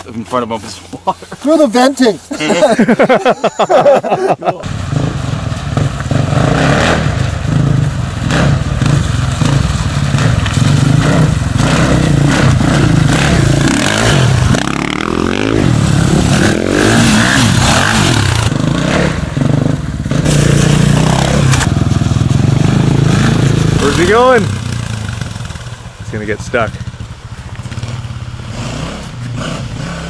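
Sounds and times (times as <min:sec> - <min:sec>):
dirt bike engine revving: 0:04.6 - 0:30.0.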